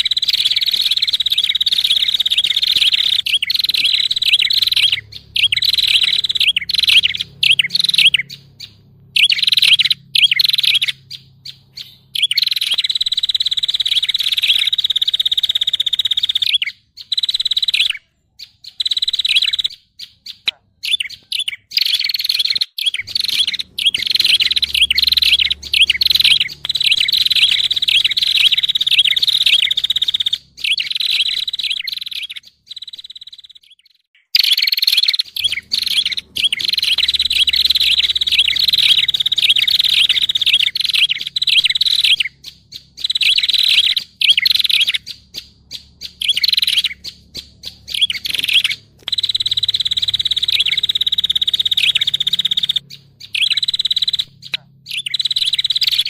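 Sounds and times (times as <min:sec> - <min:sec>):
high-pitched bird chattering: 0:00.0 - 0:56.0.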